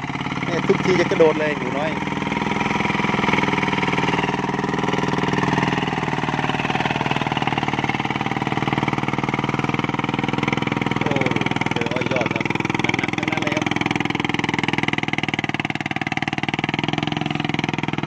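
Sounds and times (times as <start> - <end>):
diesel engine chugging: 0.0 - 18.0.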